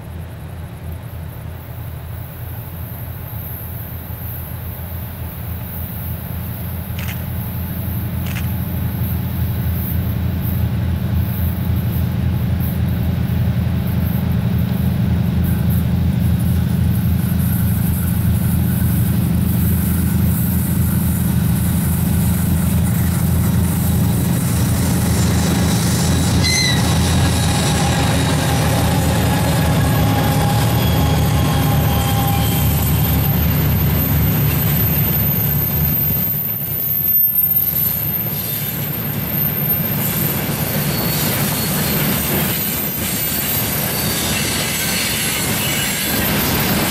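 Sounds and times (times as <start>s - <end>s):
diesel locomotive engine droning: 0.0s - 46.9s.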